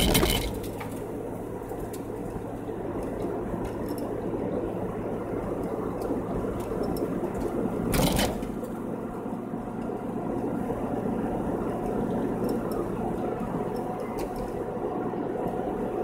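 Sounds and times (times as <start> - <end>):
car road noise: 0.0 - 16.0.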